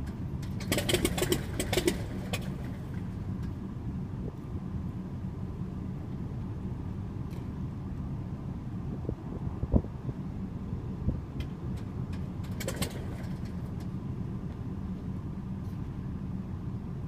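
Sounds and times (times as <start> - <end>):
propeller plane engine running: 0.0 - 17.0.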